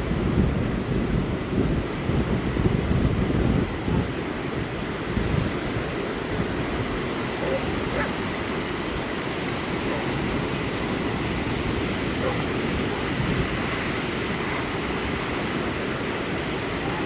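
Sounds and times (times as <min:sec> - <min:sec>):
ocean surf rushing: 0:00.0 - 0:17.0
wind on microphone: 0:00.0 - 0:17.0.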